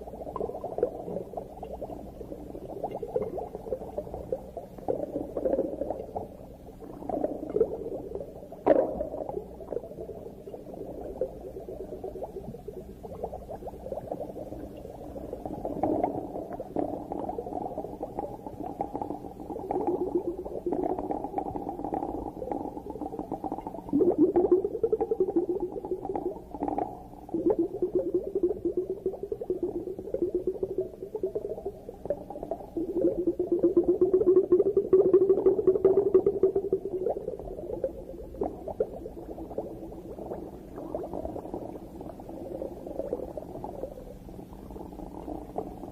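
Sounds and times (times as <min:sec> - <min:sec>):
underwater bubbling and gurgling: 0:00.0 - 0:45.9.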